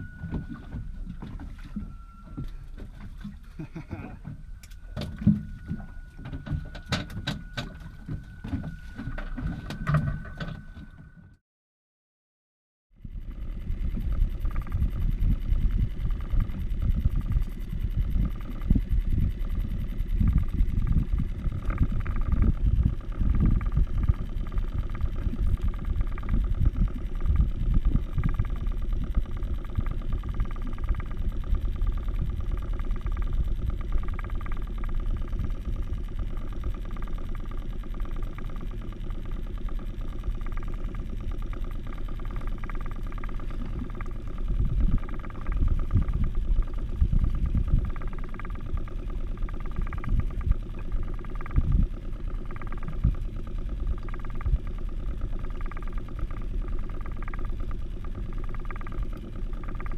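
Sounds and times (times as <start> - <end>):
boat engine rumble: 0.0 - 11.4, 13.0 - 59.9
thin steady tone: 0.0 - 11.4, 13.0 - 59.9.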